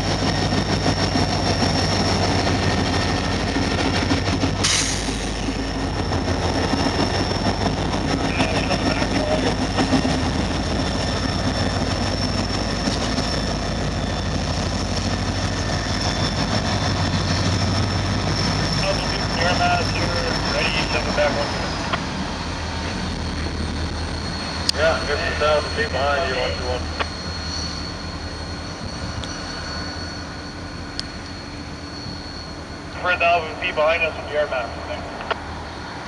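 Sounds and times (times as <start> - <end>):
diesel locomotive engine hum: 0.0 - 36.0
wheels rumbling on rails: 0.0 - 36.0.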